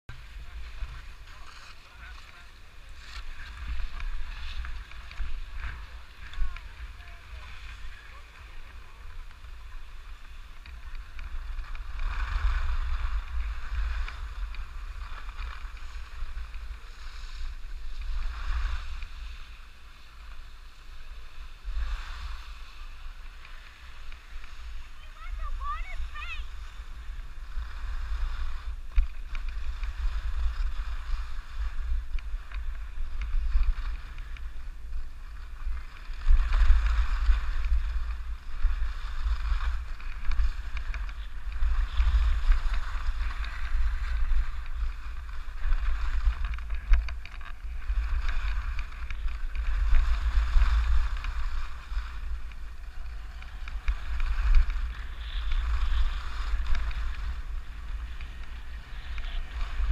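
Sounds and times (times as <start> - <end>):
wind rumbling on microphone: 0.1 - 59.9
skis hissing over snow: 0.2 - 46.8, 47.5 - 59.9.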